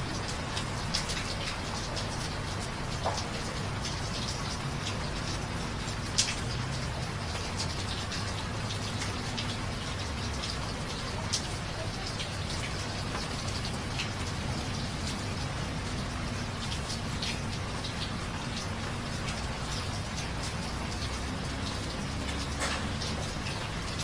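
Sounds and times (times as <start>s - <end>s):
raindrops ticking close by: 0.0s - 24.0s
steady rain hiss: 0.0s - 24.0s.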